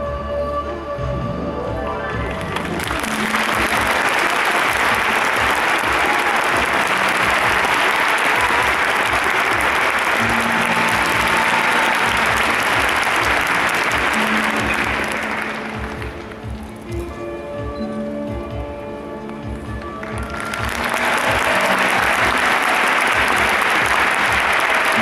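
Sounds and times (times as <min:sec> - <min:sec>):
music playing: 0:00.0 - 0:25.0
crowd applauding: 0:02.2 - 0:17.0, 0:19.4 - 0:25.0.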